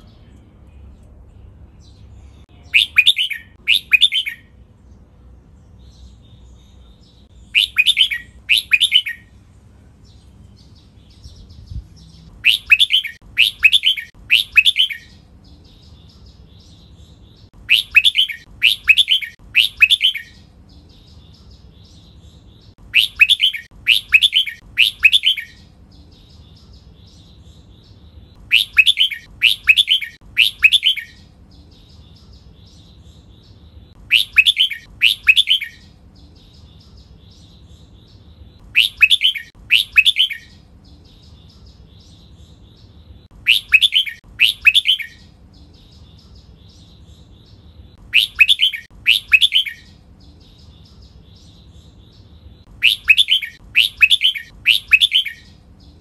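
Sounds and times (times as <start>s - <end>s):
faint bird chirps: 0.0s - 4.8s, 5.5s - 9.4s, 10.0s - 56.0s
bulbul singing: 0.0s - 56.0s.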